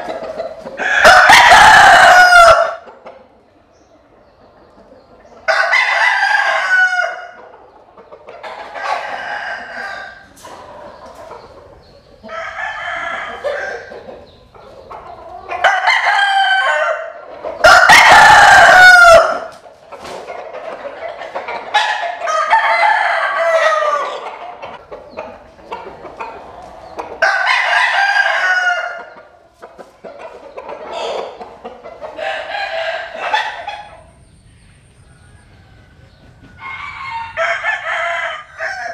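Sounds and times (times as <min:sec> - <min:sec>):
roosters crowing: 0:00.0 - 0:03.1, 0:05.3 - 0:38.9.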